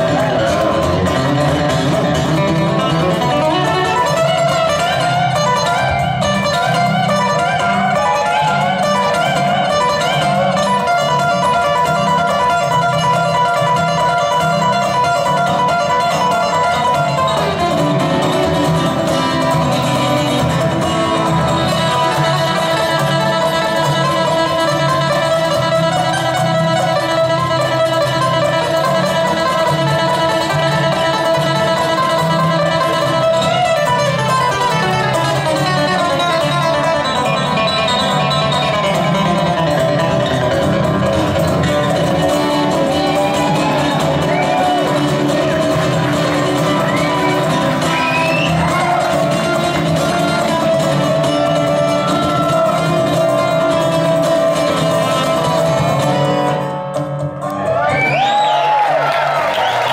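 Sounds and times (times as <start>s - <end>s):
dobro playing: 0.0s - 58.3s
picked acoustic guitar: 0.0s - 59.9s.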